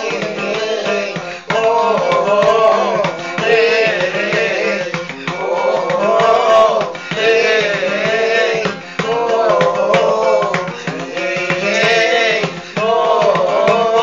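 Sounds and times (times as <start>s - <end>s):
acoustic guitar strumming: 0.0s - 14.0s
man singing: 0.0s - 14.0s
sharp percussive beats: 0.0s - 14.0s.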